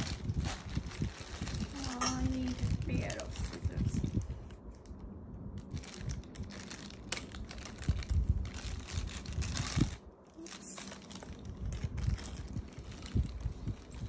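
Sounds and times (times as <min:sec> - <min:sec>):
plastic wrapping crinkling: 0:00.0 - 0:05.0, 0:05.6 - 0:14.0.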